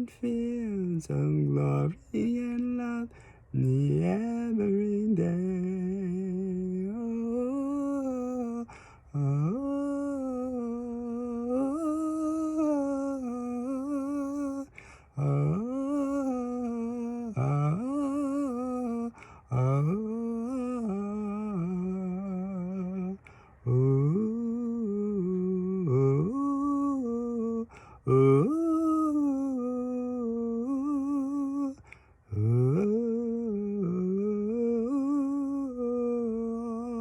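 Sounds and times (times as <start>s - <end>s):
man singing unaccompanied: 0.0s - 37.0s.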